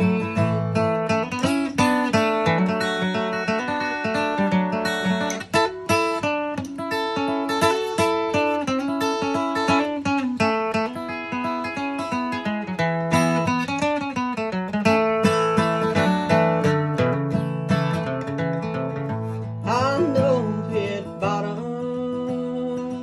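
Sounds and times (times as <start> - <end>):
acoustic guitar: 0.0 - 23.0.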